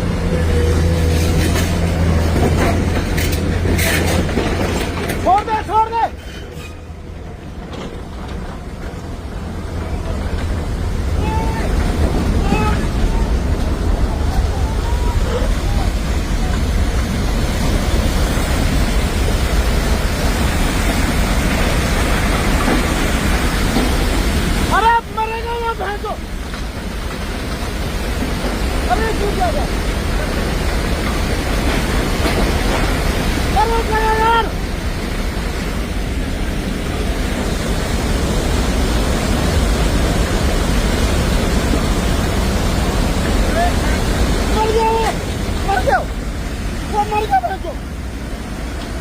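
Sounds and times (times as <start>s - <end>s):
floodwater rushing: 0.0s - 49.0s.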